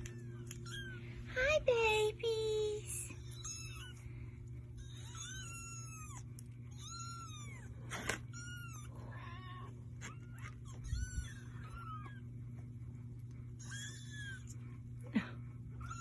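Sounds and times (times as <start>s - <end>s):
kittens mewing: 0.0s - 1.4s, 2.9s - 12.7s, 13.5s - 16.0s.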